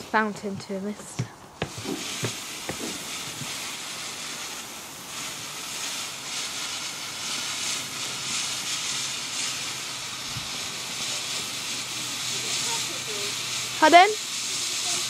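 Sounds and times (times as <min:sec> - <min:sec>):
firework fountain fizzing: 0:00.0 - 0:15.0.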